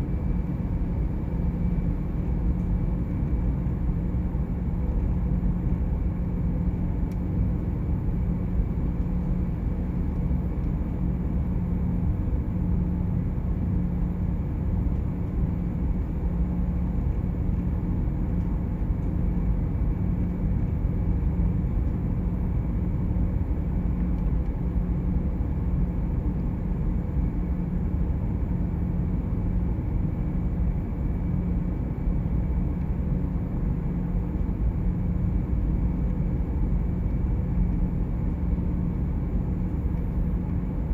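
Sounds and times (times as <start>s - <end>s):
constant deep hum: 0.0s - 40.9s.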